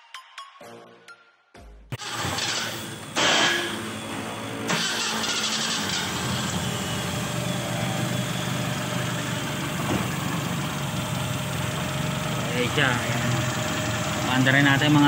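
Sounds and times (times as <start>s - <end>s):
car engine idling: 2.0s - 15.0s.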